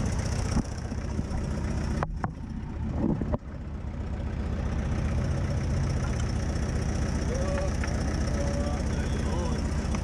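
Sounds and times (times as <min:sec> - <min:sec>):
jeep engine rumbling: 0:00.0 - 0:10.0.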